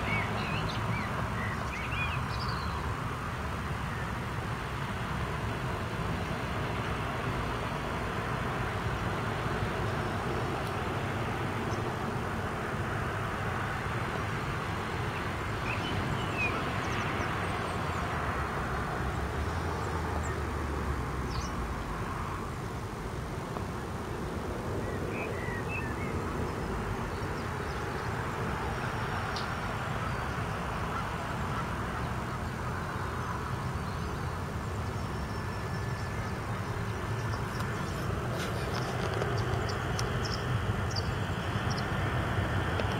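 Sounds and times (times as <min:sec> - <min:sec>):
jet airliner rumble and hiss: 0:00.0 - 0:42.9.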